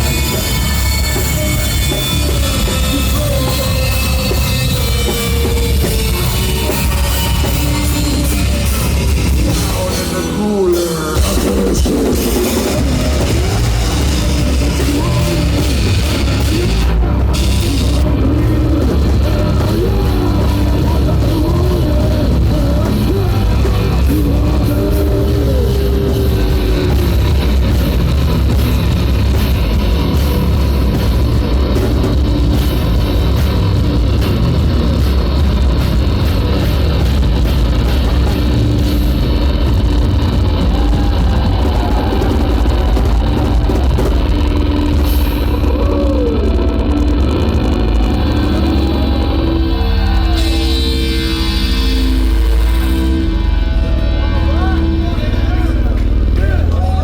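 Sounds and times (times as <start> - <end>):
drum kit pounding: 0.0 - 57.0
heavy metal band playing: 0.0 - 57.0.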